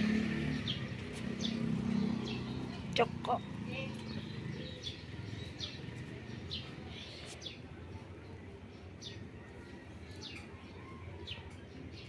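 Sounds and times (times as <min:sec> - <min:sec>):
low street rumble: 0:00.0 - 0:12.0
small birds chirping: 0:00.0 - 0:12.0.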